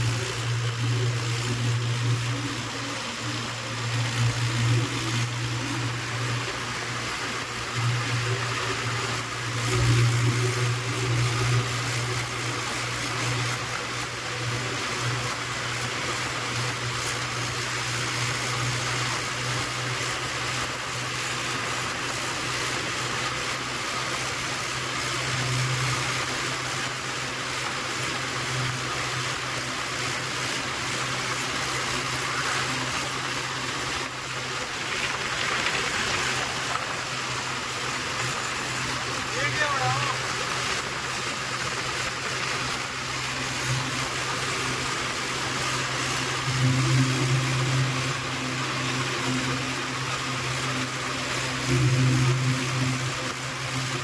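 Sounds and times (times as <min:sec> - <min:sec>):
constant hiss: 0:00.0 - 0:54.0
tractor engine droning: 0:00.0 - 0:54.0.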